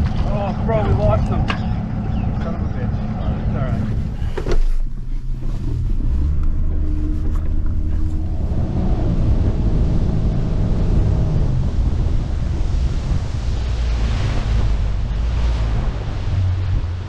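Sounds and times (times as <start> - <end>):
boat motor running: 0.0 - 17.0
wind on microphone: 0.0 - 17.0.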